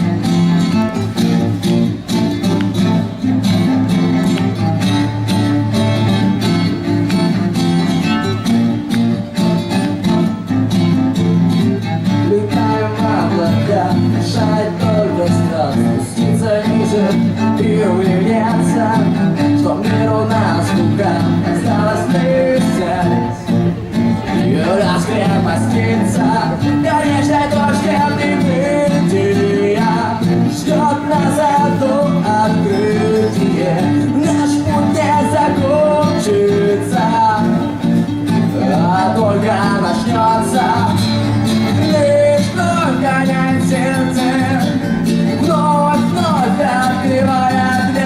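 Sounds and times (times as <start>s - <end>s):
guitars: 0.0s - 48.0s.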